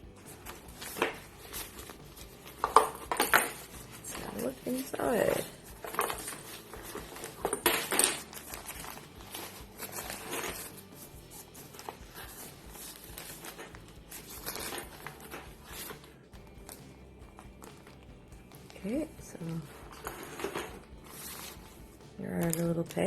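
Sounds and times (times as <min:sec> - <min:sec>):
plastic packaging rustling: 0:00.0 - 0:23.0.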